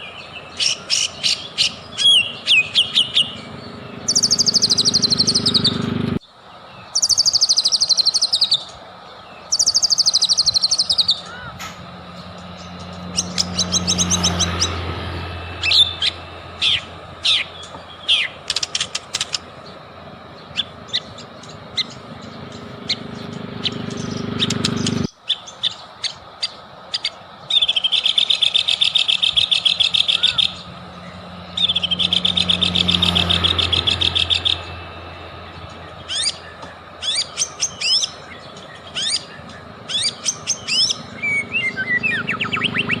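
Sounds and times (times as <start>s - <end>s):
songbird singing varied phrases: 0.0s - 43.0s.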